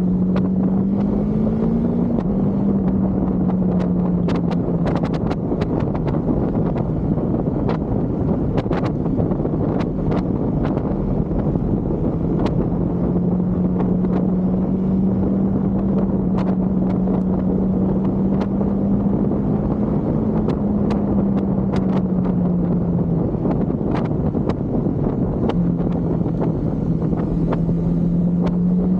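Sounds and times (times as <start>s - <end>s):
motorcycle engine cruising: 0.0s - 28.9s
wind buffeting microphone: 0.0s - 28.9s.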